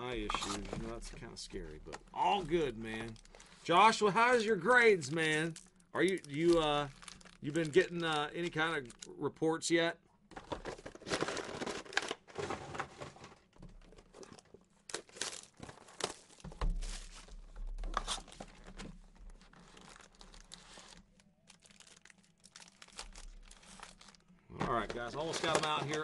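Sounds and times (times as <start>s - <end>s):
foil packs crinkling and tearing: 0.1s - 9.1s, 10.5s - 12.6s, 13.9s - 26.0s.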